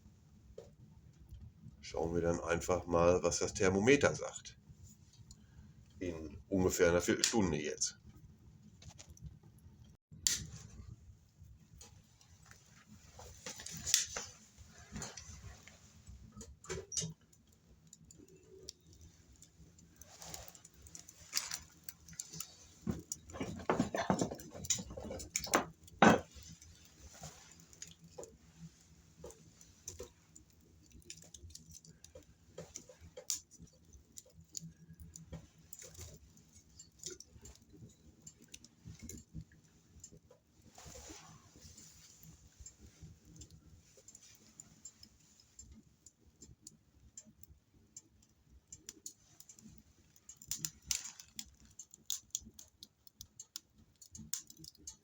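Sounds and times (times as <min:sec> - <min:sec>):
firewood crackling in stove: 0:00.0 - 0:55.0.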